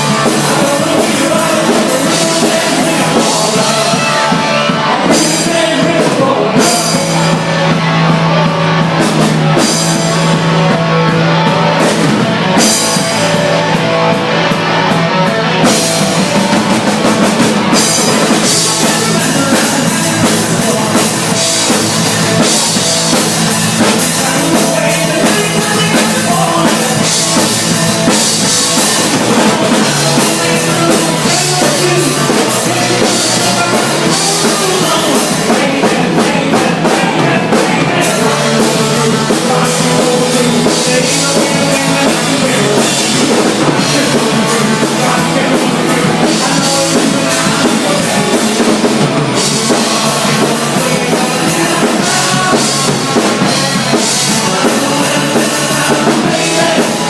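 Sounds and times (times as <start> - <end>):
rock song with drums and singing: 0.0 - 57.0.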